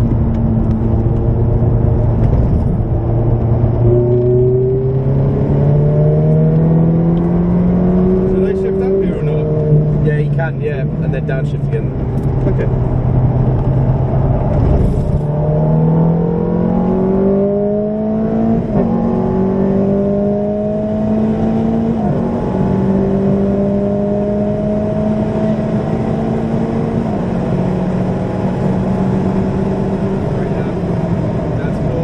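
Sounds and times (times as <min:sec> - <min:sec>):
car engine accelerating with upshifts: 0:00.0 - 0:32.0.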